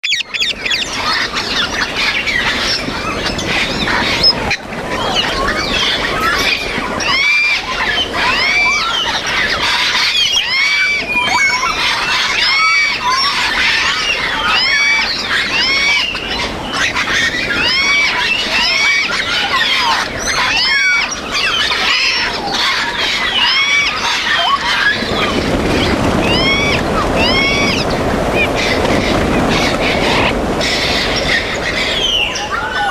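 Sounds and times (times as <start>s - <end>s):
parrots squawking and whistling: 0.0s - 32.9s.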